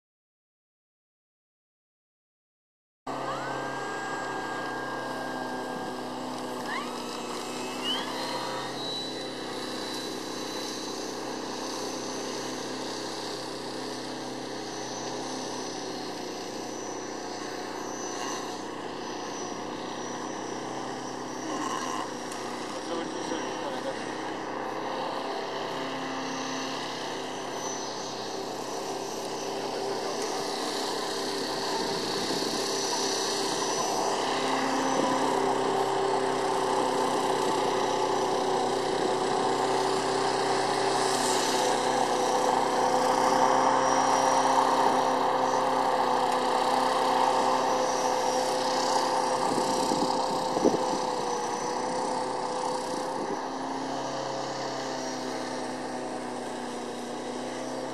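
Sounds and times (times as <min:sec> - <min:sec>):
model plane motor whine: 0:03.1 - 0:57.9.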